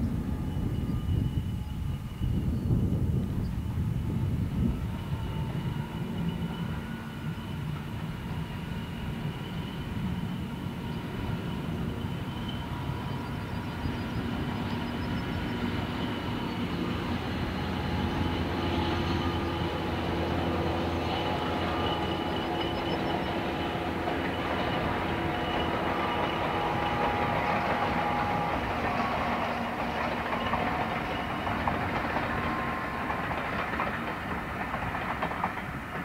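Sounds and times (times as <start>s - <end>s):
diesel locomotive engine under load: 0.0s - 36.0s
train coaches rolling on rails: 0.1s - 36.0s.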